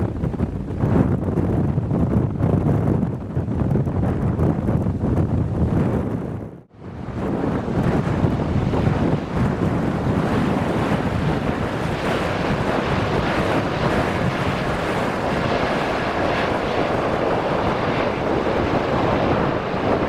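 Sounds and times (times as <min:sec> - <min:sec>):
jet engines roaring: 0:00.0 - 0:20.0
wind buffeting microphone: 0:00.0 - 0:20.0.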